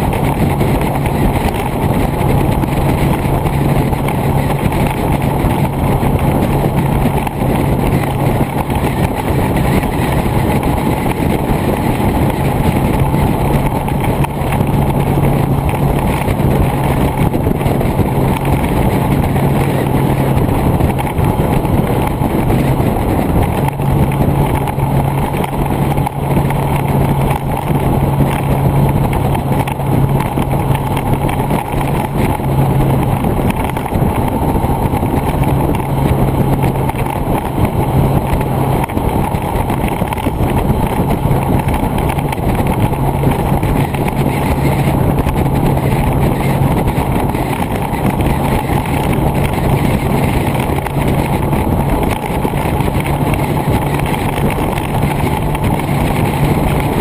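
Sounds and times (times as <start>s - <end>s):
engine drone: 0.0s - 57.0s
wind noise on microphone: 0.0s - 57.0s.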